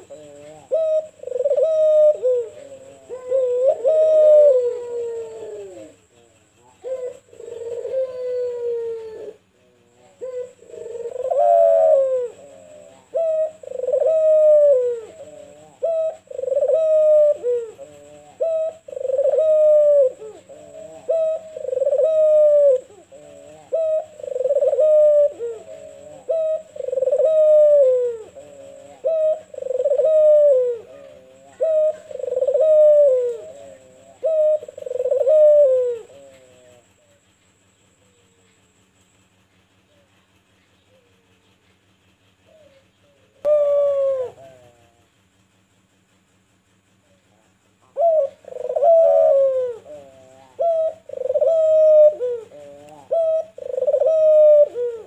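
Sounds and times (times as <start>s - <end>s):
dove cooing: 0.0s - 45.2s, 47.1s - 55.0s.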